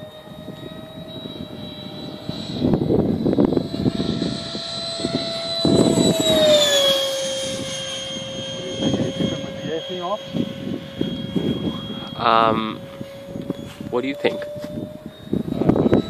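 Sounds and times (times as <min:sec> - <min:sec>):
model jet fan whining: 0:00.0 - 0:16.0.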